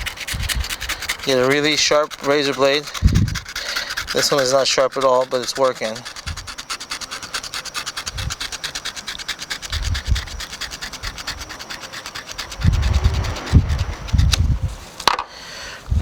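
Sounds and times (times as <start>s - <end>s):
blade sawing through webbing: 0.0s - 15.0s.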